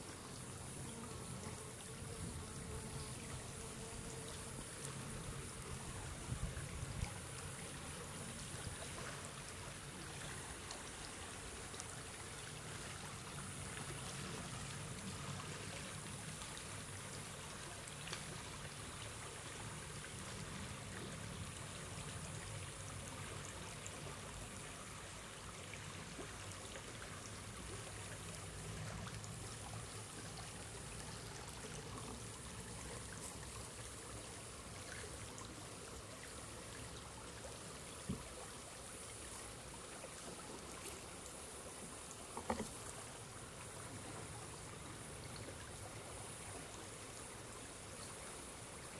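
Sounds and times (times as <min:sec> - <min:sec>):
brook water trickling: 0:00.0 - 0:48.9.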